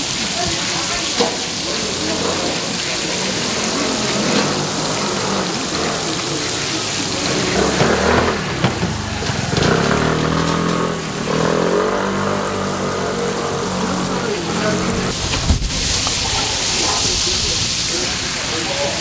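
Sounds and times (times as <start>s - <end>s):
food sizzling on a griddle: 0.0s - 19.0s
vehicle engine passing: 1.1s - 18.6s.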